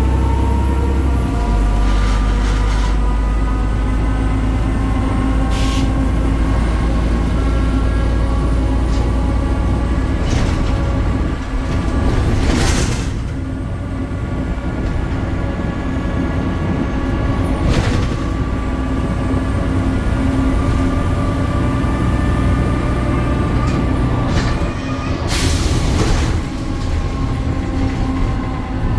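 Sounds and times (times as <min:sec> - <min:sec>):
bus engine drone with whine: 0:00.0 - 0:28.9.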